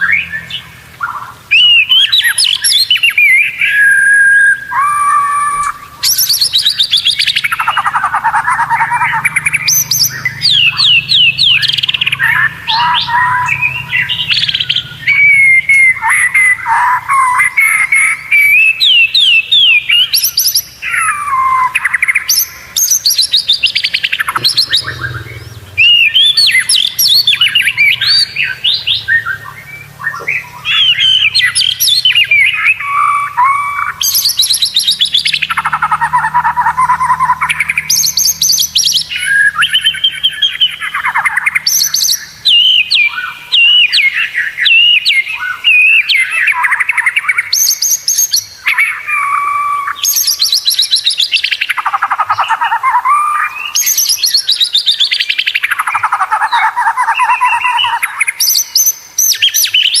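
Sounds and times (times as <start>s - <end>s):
songbird whistling and trilling: 0.0s - 60.0s.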